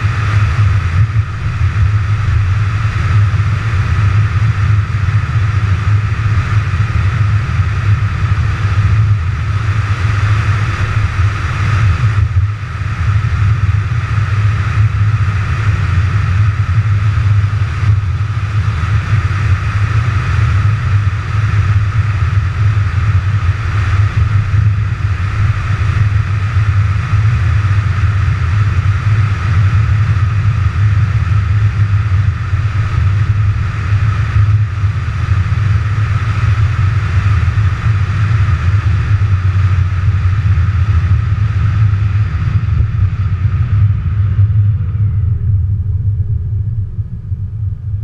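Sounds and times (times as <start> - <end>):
road and wind rumble: 0.0 - 48.0.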